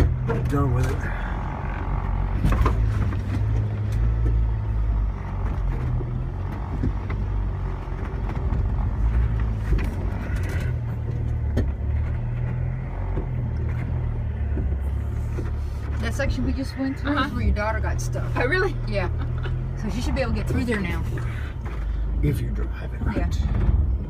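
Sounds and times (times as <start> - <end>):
knocks and clatter from bumps: 0.0 - 16.9, 17.6 - 24.0
vehicle engine rumbling: 0.0 - 24.0.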